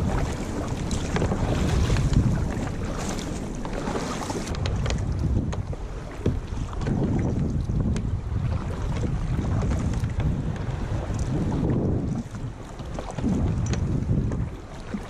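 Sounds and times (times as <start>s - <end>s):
water sloshing against hull: 0.0s - 15.0s
wind buffeting microphone: 0.0s - 15.0s.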